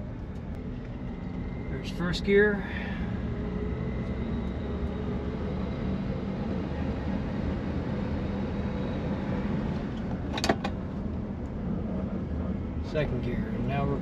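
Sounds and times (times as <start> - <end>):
car engine droning: 0.0 - 14.0
road noise: 0.0 - 14.0.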